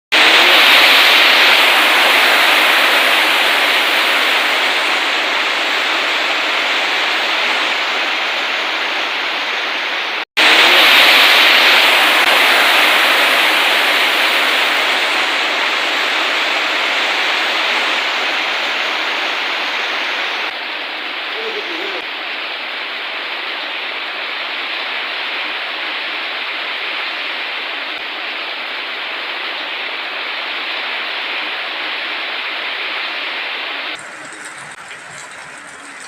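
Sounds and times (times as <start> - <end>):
heavy rain pouring: 0.1 - 36.0.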